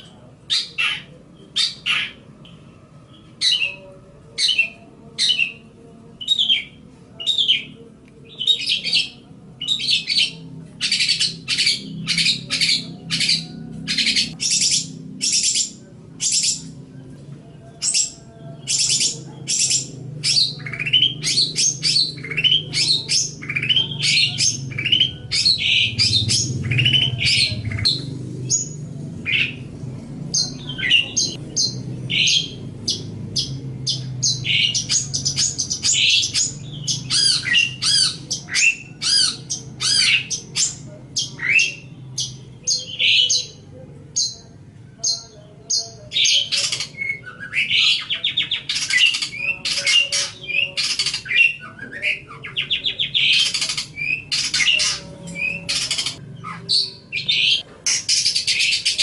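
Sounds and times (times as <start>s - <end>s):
bird singing harsh chirps: 6.2s - 16.8s, 17.7s - 29.7s, 30.3s - 59.0s.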